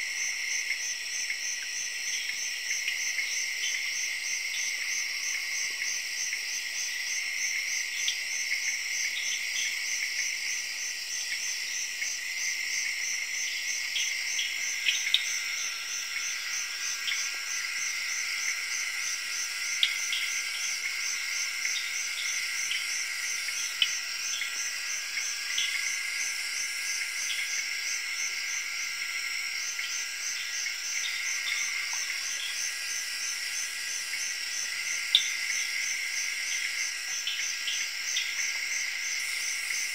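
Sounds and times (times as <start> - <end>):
insects trilling: 0.0 - 39.9
pulsing insect trill: 0.0 - 39.9.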